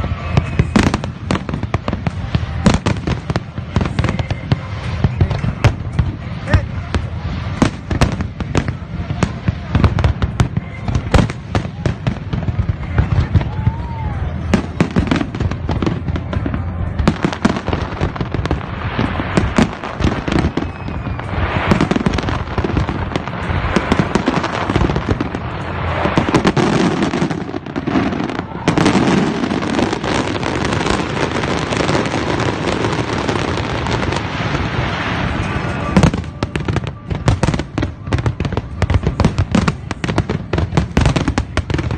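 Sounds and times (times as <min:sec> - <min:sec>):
fireworks bangs and crackling: 0:00.0 - 0:41.9.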